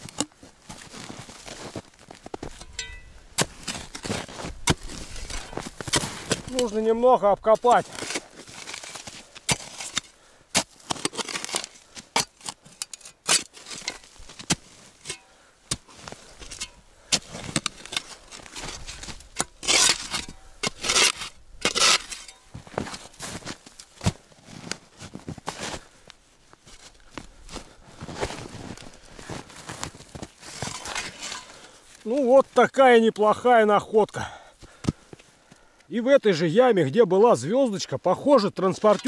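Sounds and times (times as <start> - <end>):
spade digging frozen soil: 0.0 - 25.9, 26.6 - 33.3, 38.5 - 39.0.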